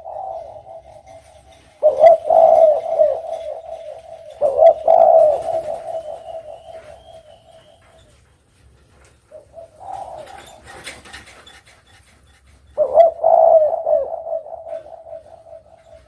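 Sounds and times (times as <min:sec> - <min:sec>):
dove cooing: 0:00.0 - 0:08.2, 0:09.3 - 0:11.5, 0:12.7 - 0:16.0.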